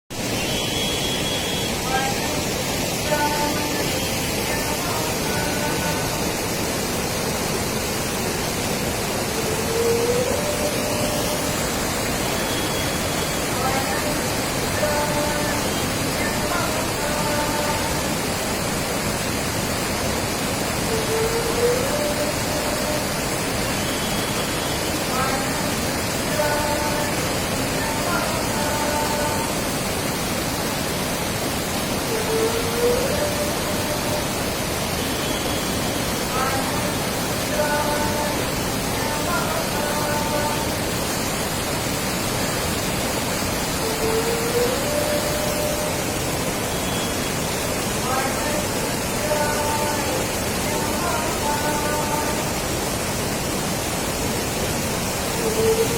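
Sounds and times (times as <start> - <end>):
floodwater rushing: 0.1 - 55.9.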